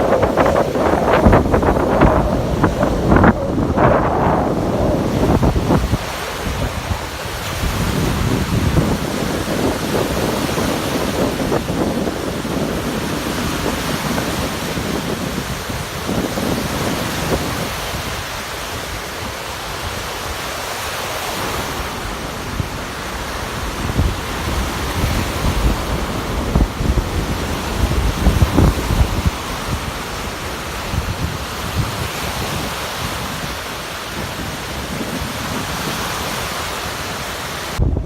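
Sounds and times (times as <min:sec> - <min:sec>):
surf breaking: 0:00.0 - 0:38.0
wind buffeting microphone: 0:00.0 - 0:38.0.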